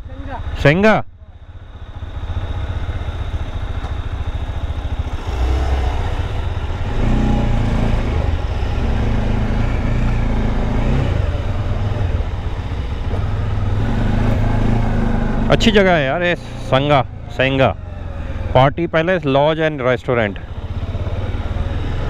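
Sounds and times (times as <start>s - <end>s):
motorcycle engine revving: 1.4s - 22.0s.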